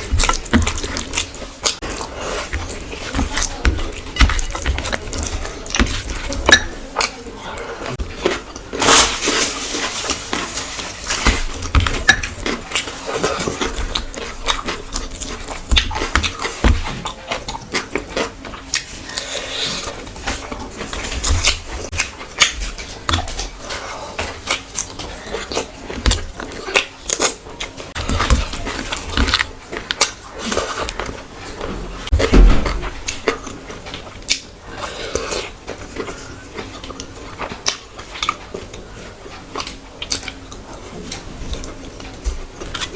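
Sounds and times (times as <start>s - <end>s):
person chewing with mouth clicks: 0.0s - 8.8s, 10.8s - 32.2s, 32.8s - 42.9s.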